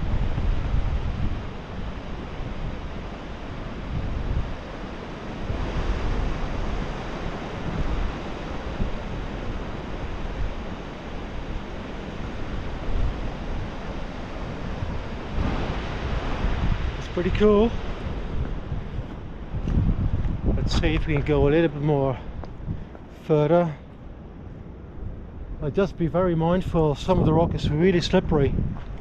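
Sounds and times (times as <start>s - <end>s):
ocean surf: 0.0s - 28.2s
wind gusting on microphone: 0.0s - 29.0s.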